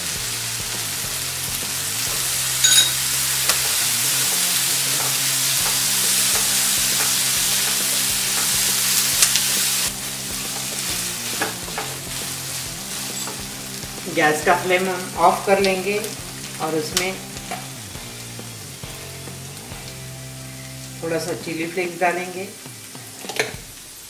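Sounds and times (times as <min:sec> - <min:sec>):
vegetables sizzling in butter: 0:00.0 - 0:24.0.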